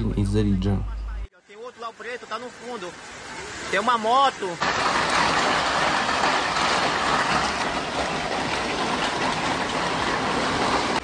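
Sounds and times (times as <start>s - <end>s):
heavy driving rain: 1.6s - 11.0s.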